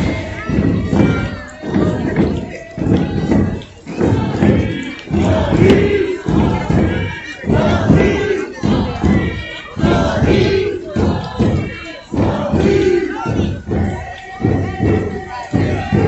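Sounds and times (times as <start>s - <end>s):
group of voices chanting: 0.0s - 16.0s.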